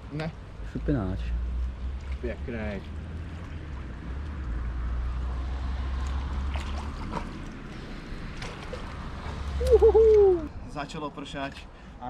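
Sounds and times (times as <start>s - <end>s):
water sloshing and splashing: 0.4s - 10.5s.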